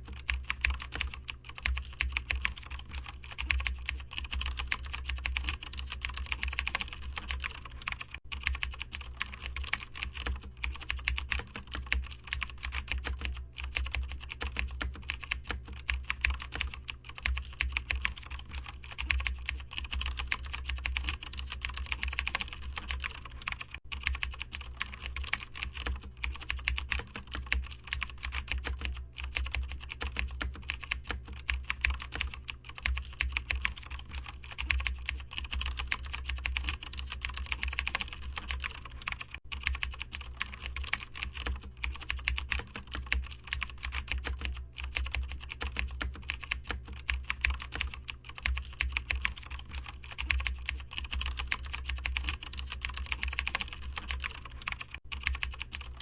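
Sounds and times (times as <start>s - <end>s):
fast typing on computer keyboard: 0.0s - 56.0s
low steady hum: 0.0s - 56.0s.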